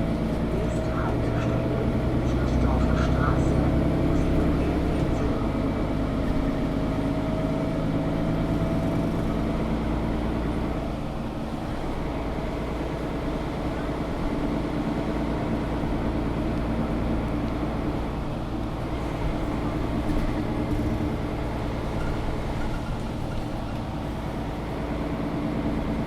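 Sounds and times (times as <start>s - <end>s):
bus engine running: 0.0s - 26.0s.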